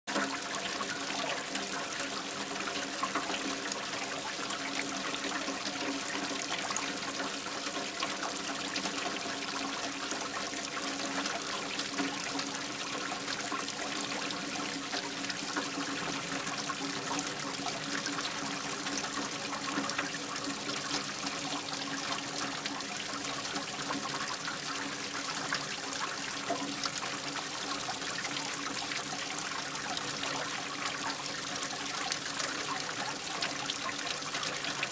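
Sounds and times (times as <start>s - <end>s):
steady rain: 0.1s - 34.9s
water trickling and dripping: 0.1s - 34.9s.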